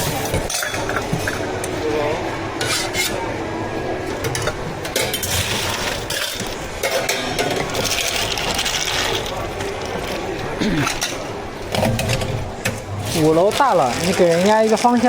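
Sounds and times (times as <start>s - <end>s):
utensils and cups clinking: 0.0s - 15.0s.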